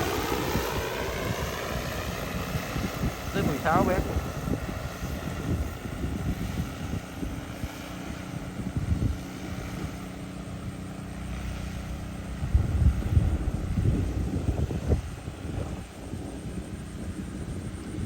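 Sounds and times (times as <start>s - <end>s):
drone propellers humming: 0.0s - 18.0s.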